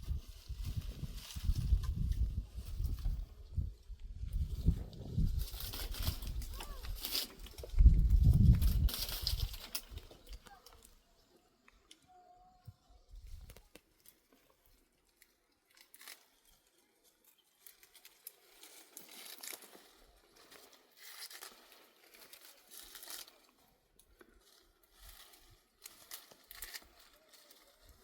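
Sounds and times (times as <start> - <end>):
faint rustling and crunching: 0.0 - 28.0.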